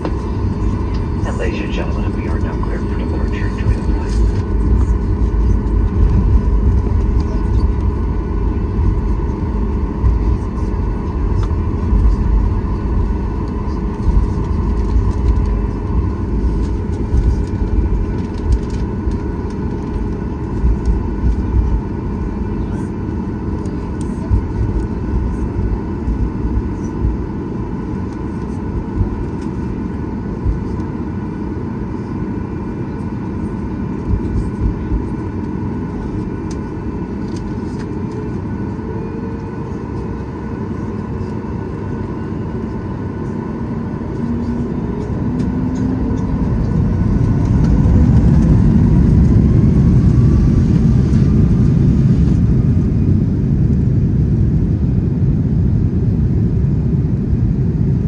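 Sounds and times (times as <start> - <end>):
faint engine whine: 0.0 - 58.0
jet engines rumbling: 0.0 - 58.0.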